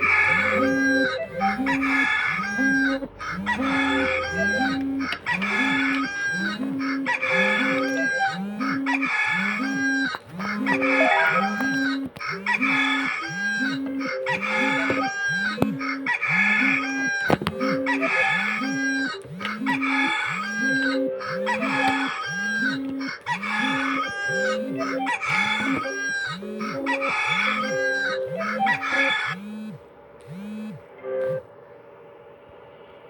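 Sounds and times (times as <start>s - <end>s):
rooster alarm ringtone: 0.0s - 31.4s.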